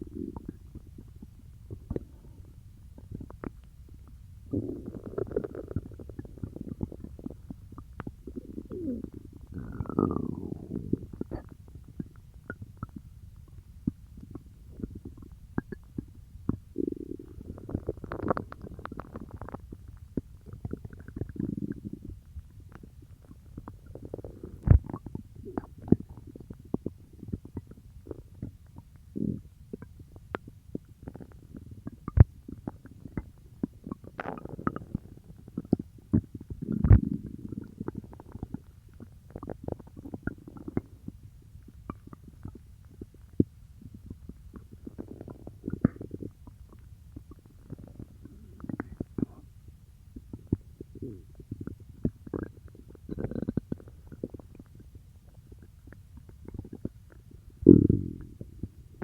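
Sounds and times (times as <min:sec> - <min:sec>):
stomach growling and gurgling: 0:00.0 - 0:59.0.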